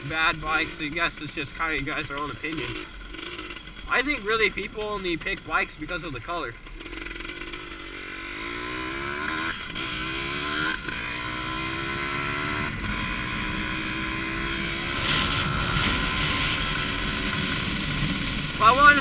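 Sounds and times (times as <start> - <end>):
dirt bike engine accelerating: 0.0 - 19.0.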